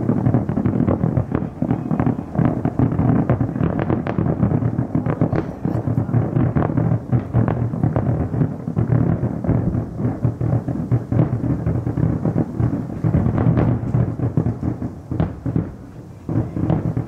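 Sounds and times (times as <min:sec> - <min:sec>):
distant fireworks booming and crackling: 0:00.0 - 0:17.0.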